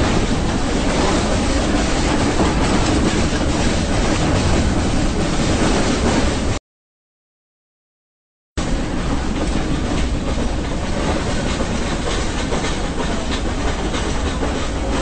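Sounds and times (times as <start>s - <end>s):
train running: 0.0s - 6.6s, 8.6s - 15.0s.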